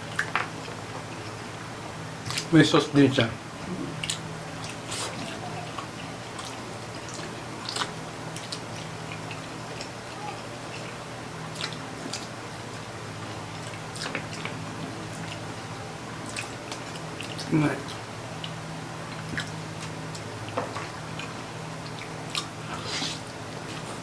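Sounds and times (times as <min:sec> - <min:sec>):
steady low hum: 0:00.0 - 0:24.0
person chewing wetly: 0:03.7 - 0:24.0.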